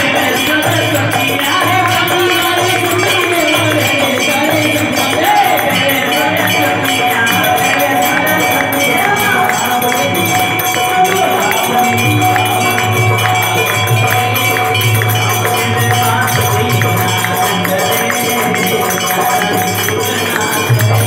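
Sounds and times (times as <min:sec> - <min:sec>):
jingling hand percussion: 0:00.0 - 0:21.0.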